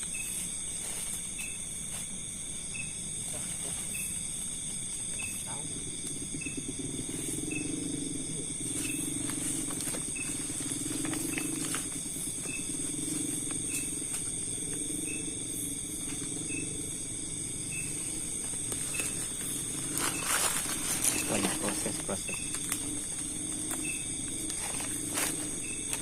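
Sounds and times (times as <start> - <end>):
high-pitched insect trills: 0.0 - 26.0
short cricket chirp: 0.0 - 26.0.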